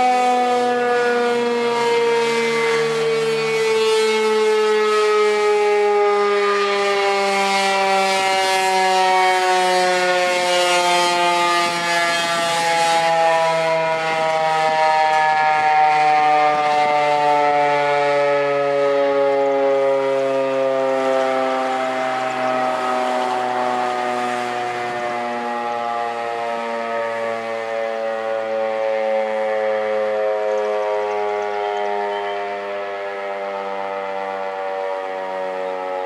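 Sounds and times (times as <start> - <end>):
tornado siren wailing: 0.0 - 36.0.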